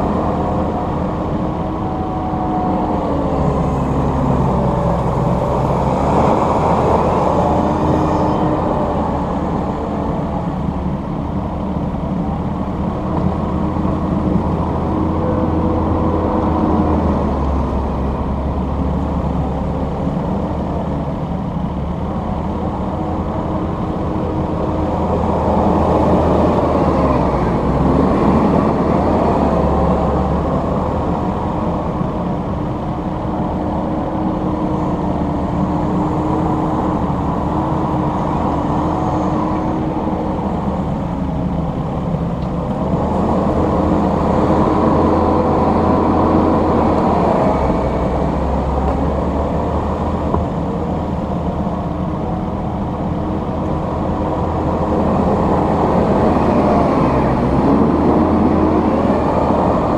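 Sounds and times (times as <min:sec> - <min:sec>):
track loader diesel engine: 0:00.0 - 0:59.9.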